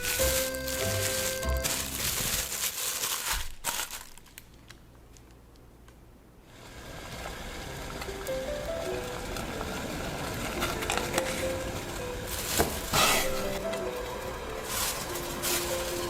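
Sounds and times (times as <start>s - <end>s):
crinkling handling noise: 0.0s - 6.0s, 8.0s - 16.0s.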